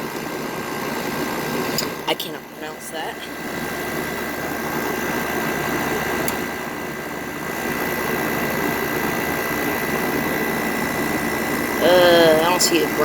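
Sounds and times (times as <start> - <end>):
air conditioner blower running: 0.0 - 13.0.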